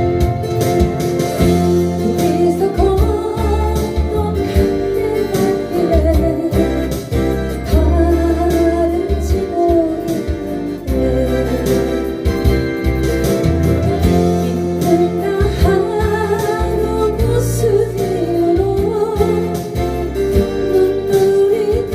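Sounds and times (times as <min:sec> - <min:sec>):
guitar and instrumental backing: 0:00.0 - 0:21.9
person singing slow song: 0:01.9 - 0:12.5, 0:13.8 - 0:21.9.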